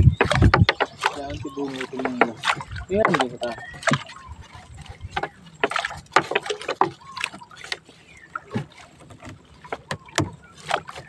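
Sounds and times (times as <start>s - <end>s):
fishing net knocking against hull: 0.0s - 4.1s, 5.0s - 7.8s, 8.4s - 11.0s
water splashing: 0.0s - 11.0s.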